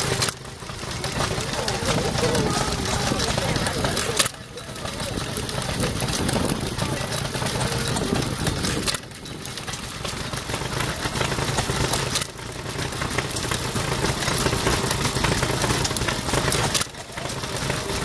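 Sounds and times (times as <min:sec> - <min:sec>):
gas engine running: 0:00.0 - 0:18.0.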